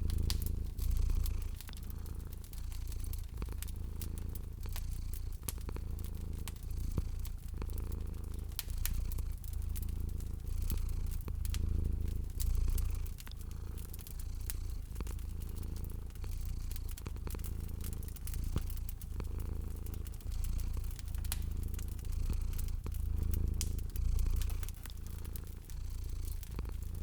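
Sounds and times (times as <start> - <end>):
cat purring: 0.0 - 27.0
wood fire crackling and popping: 0.0 - 27.0.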